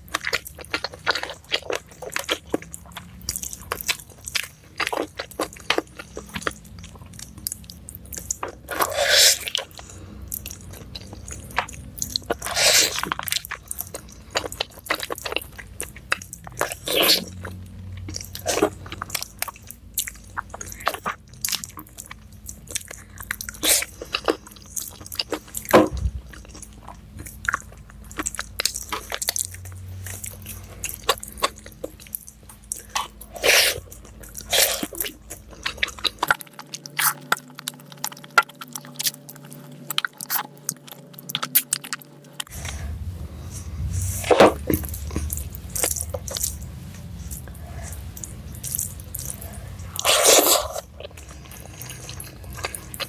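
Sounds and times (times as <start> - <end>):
person chewing meat: 0.0 - 53.0.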